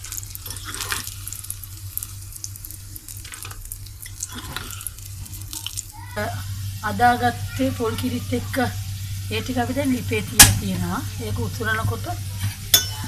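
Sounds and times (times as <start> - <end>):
eggplant frying in hot oil: 0.0 - 13.0.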